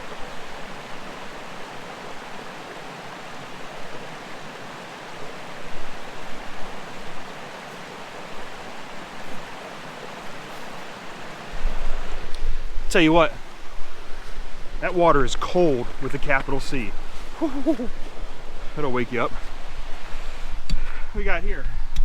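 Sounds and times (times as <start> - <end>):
creek water rushing and splashing: 0.0 - 22.0.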